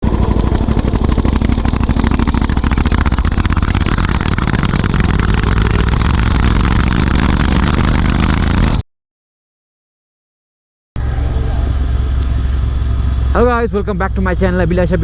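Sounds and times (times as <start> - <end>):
motorcycle engine pulsing exhaust: 0.0 - 8.8, 11.0 - 15.0.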